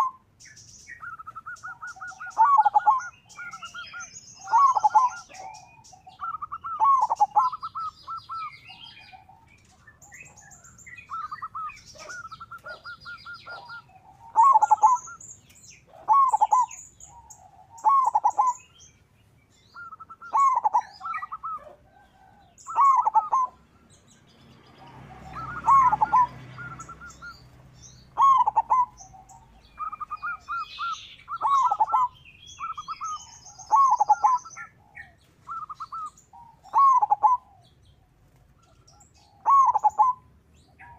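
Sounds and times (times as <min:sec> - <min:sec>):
small birds chirping: 0:00.0 - 0:40.9
dove stuttering coo: 0:01.0 - 0:15.2, 0:15.9 - 0:18.6, 0:19.8 - 0:23.6, 0:24.8 - 0:27.4, 0:28.1 - 0:40.3.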